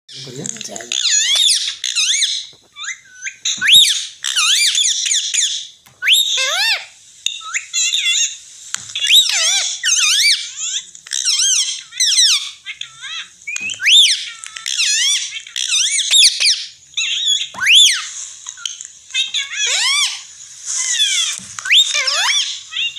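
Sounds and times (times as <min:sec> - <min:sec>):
parrot chirping and squawking: 0:00.1 - 0:22.9.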